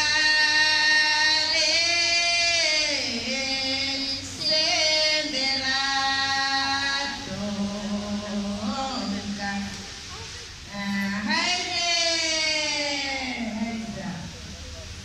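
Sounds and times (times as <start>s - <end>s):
women singing long held notes: 0.0s - 14.4s.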